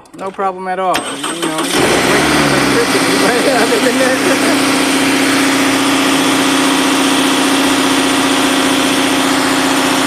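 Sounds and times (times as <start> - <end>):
car engine idling: 1.1 - 10.0.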